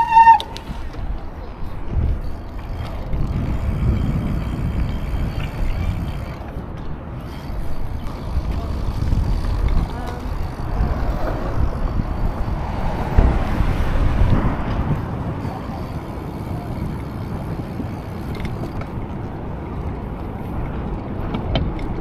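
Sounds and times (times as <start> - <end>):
bike tyre rumble: 0.0 - 22.0
wind: 0.0 - 22.0.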